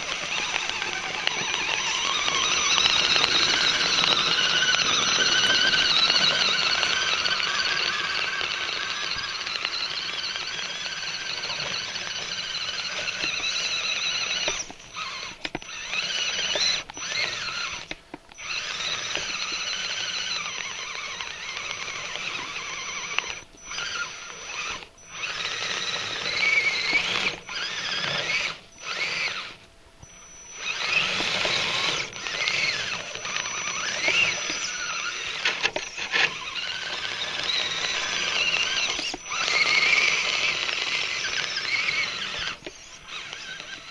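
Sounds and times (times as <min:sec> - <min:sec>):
electric motor whine of toy crawler: 0:00.0 - 0:43.9.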